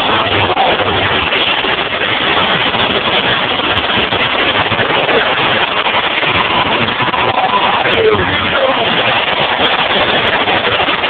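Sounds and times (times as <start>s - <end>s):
unmuffled car engines running: 0.0s - 11.0s.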